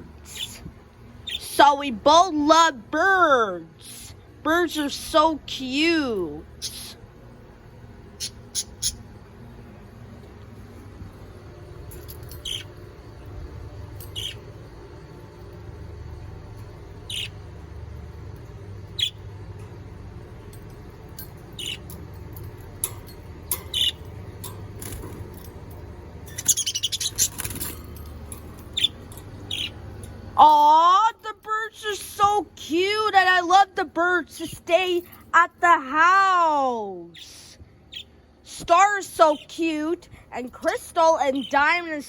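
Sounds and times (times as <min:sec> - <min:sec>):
pet birds chirping: 0:00.2 - 0:02.7, 0:03.8 - 0:07.0, 0:08.0 - 0:10.2, 0:11.8 - 0:33.6, 0:37.0 - 0:42.0.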